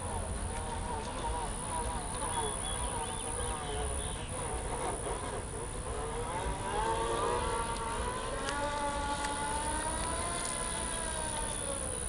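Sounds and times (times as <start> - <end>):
electric scooter motor whining: 0.0 - 12.0.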